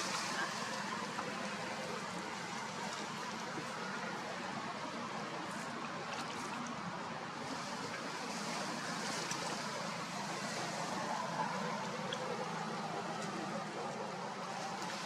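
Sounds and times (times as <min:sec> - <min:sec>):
sea water washing: 0:00.0 - 0:15.0.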